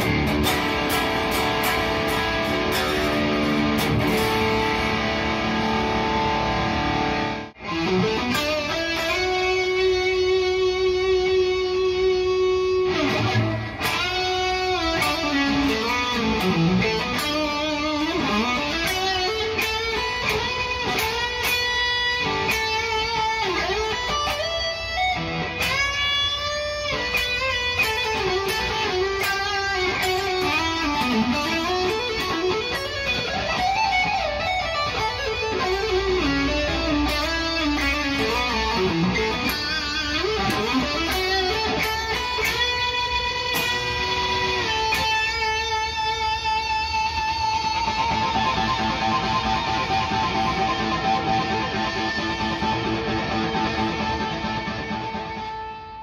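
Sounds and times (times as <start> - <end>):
overdriven electric guitar lead: 0.0 - 56.0.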